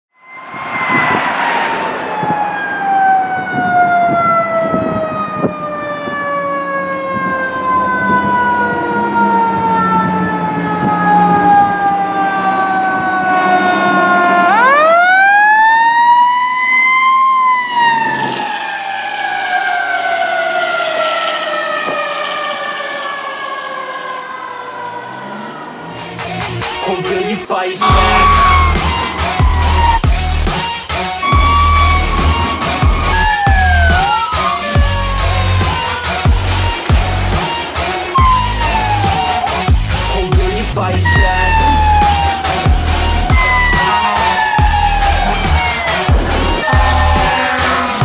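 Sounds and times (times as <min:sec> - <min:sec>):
fire engine droning: 0:00.0 - 0:26.9, 0:27.8 - 0:48.0
fire engine siren wailing: 0:00.1 - 0:27.0, 0:27.8 - 0:48.0.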